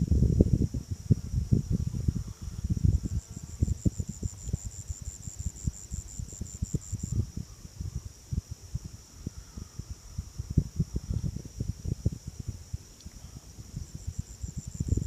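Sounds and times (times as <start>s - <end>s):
rapid pulsing insect call: 0.0s - 15.0s
insects chirring: 0.2s - 15.0s.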